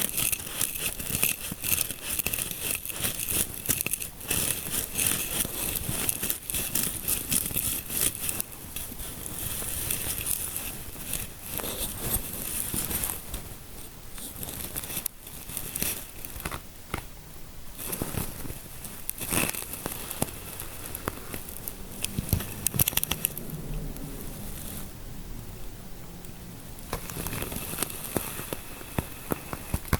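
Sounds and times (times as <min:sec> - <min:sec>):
scalp scratching crackle: 0:00.0 - 0:17.1, 0:17.7 - 0:29.9.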